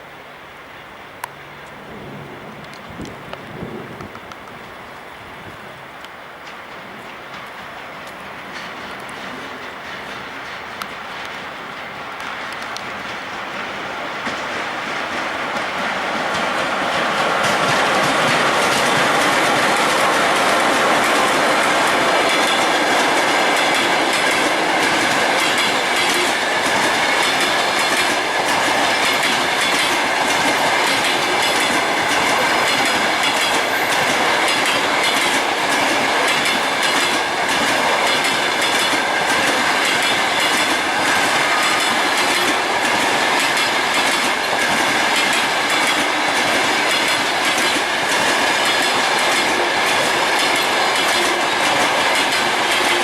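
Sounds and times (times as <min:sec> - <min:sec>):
train wheels rushing on rails: 0:00.6 - 0:53.0
wheels clicking over rail joints: 0:06.0 - 0:53.0.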